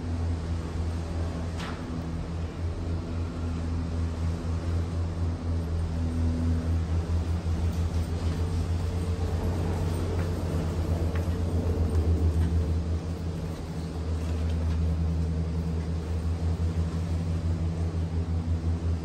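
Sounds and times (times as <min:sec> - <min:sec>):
gondola cabin rumble: 0:00.0 - 0:19.0.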